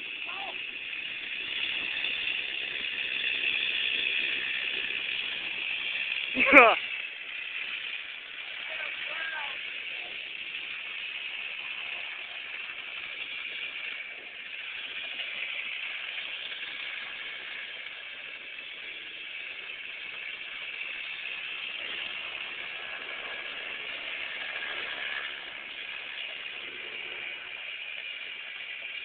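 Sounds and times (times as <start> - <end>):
distant kart engine buzzing: 0.0 - 29.0.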